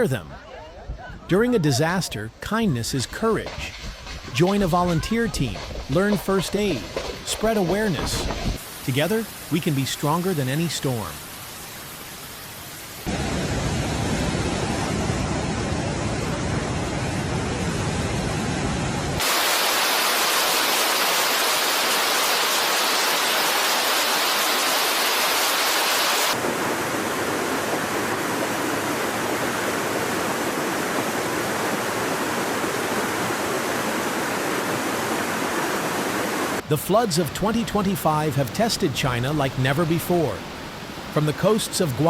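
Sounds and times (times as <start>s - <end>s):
rushing water: 0.0s - 42.0s.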